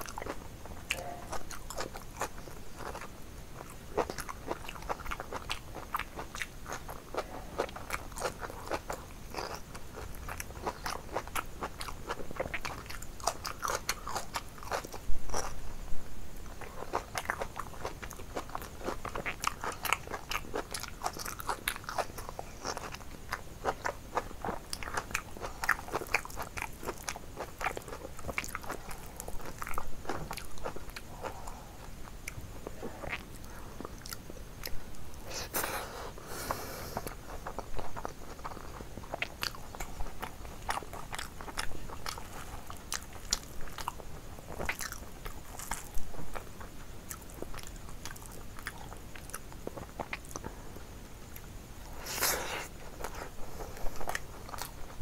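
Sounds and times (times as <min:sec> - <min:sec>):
person chewing crunchy food: 0:00.0 - 0:15.6, 0:16.4 - 0:55.0.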